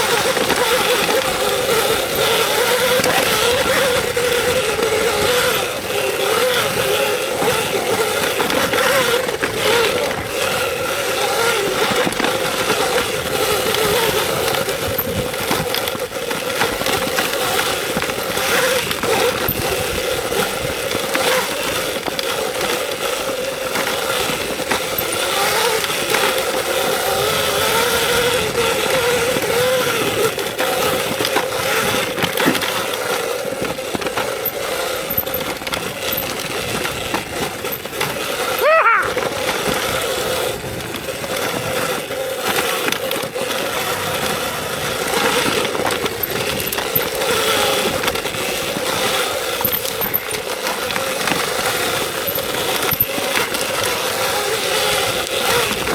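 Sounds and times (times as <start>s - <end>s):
electric motorbike motor whining: 0.0s - 55.9s.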